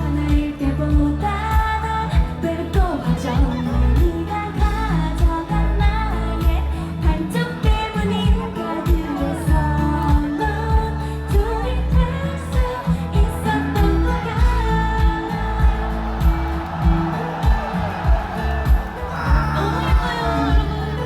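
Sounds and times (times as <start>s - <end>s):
woman singing: 0.0s - 17.6s, 19.2s - 21.0s
pop backing track with beat: 0.0s - 21.0s.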